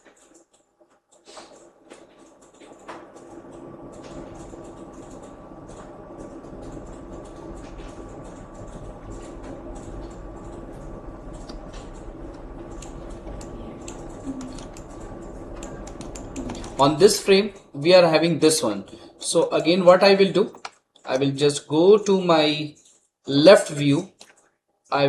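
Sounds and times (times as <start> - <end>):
steady machine hum: 0.0 - 24.0.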